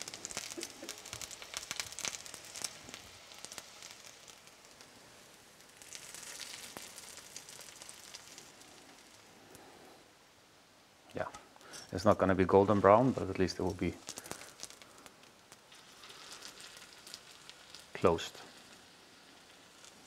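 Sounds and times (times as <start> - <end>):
food sizzling in frying oil: 0.0 - 9.7, 11.6 - 20.0.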